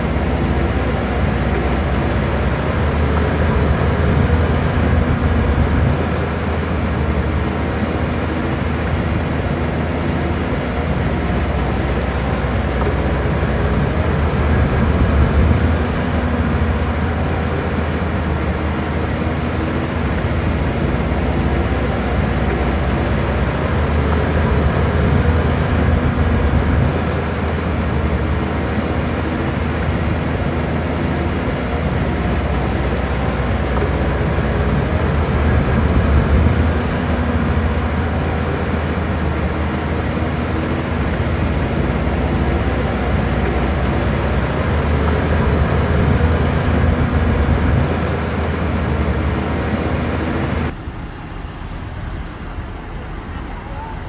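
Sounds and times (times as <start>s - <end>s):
diesel machinery rumbling: 0.0s - 54.0s.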